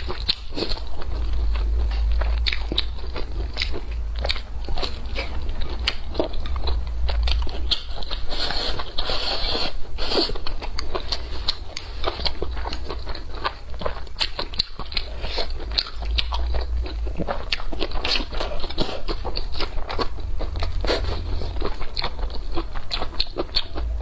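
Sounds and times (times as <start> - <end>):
chewing crunchy food: 0.0 - 24.0.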